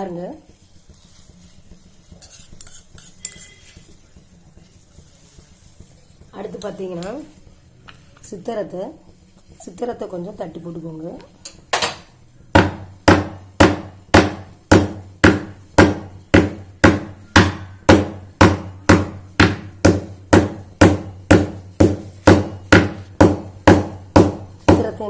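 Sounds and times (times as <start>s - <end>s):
pounding dried root by hand: 0.0s - 25.0s.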